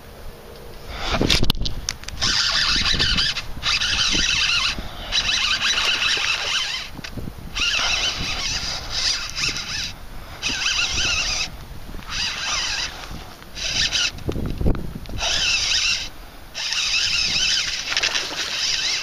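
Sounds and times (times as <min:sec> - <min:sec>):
fishing reel whirring: 0:00.9 - 0:19.0.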